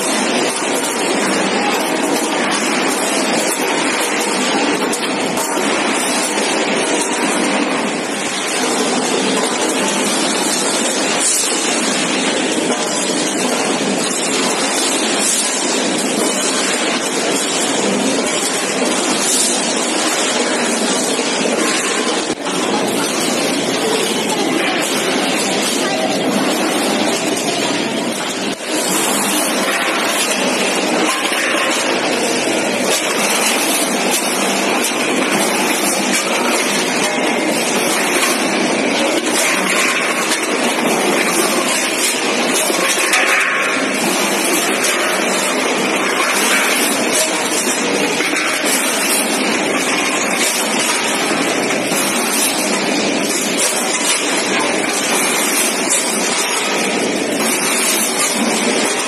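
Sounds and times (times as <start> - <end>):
frozen pieces rattling on metal: 0.0 - 59.0
packing machine running: 0.0 - 59.0.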